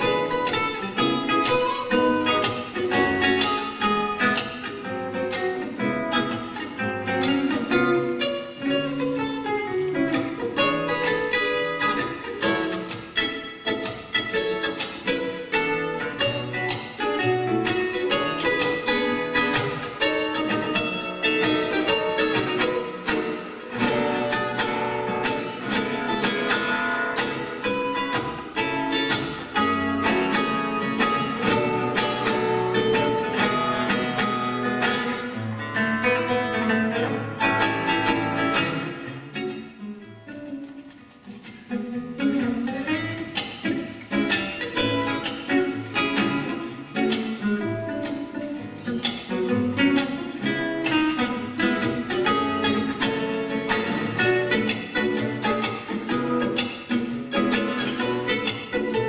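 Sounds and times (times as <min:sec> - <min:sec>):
fingerpicked classical guitar: 0:00.0 - 0:59.0.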